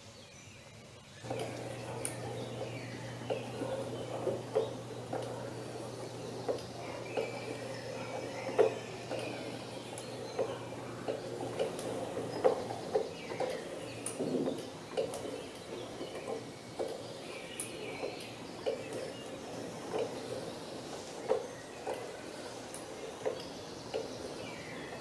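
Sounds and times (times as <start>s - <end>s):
wooden gears clicking and knocking: 1.2s - 25.0s.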